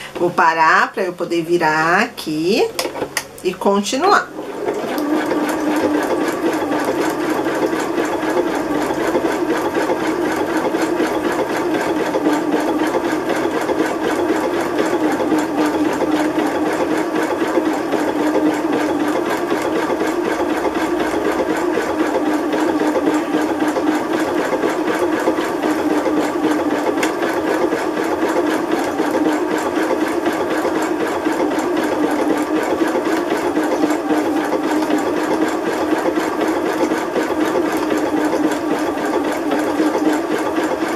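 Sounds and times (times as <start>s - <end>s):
sewing machine stitching: 2.6s - 40.9s.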